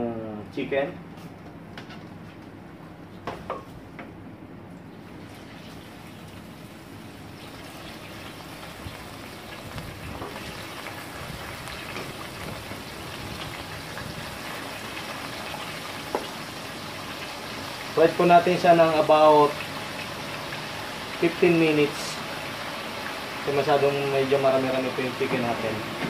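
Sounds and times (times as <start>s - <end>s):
chicken sizzling in deep fryer: 4.8s - 26.0s.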